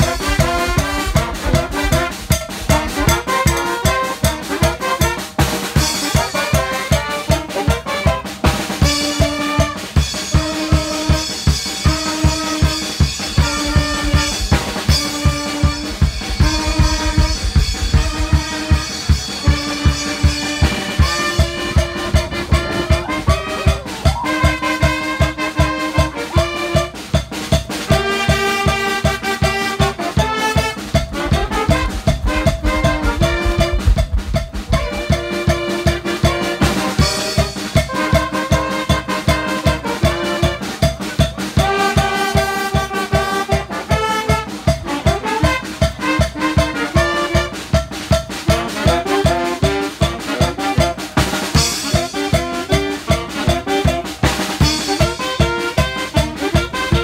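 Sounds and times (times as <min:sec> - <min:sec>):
drum kit steady beat: 0:00.0 - 0:25.5, 0:26.9 - 0:37.9, 0:44.3 - 0:57.0
brass band playing dance music: 0:00.0 - 0:57.0.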